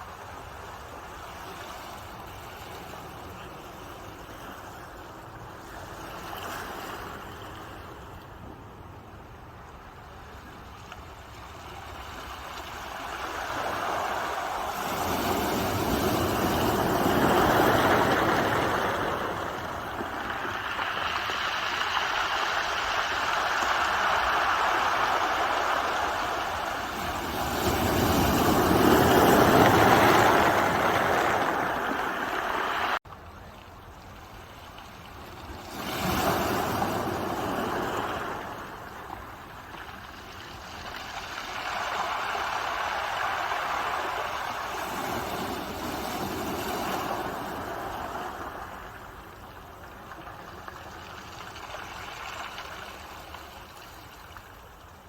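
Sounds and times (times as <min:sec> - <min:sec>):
ocean waves breaking on shore: 0:00.0 - 0:33.0, 0:34.1 - 0:55.0.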